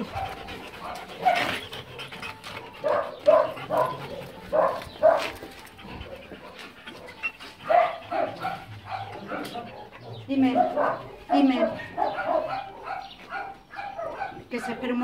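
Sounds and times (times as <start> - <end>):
dog barking: 0.0 - 1.7, 2.8 - 15.0.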